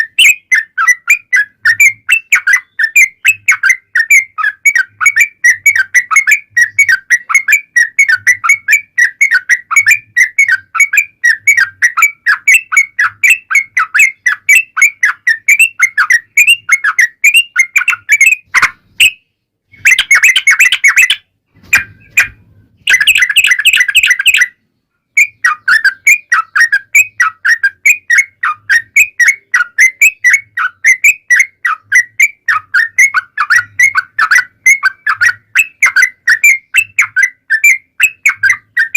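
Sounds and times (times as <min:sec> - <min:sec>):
bird chattering whistled song: 0:00.0 - 0:38.9.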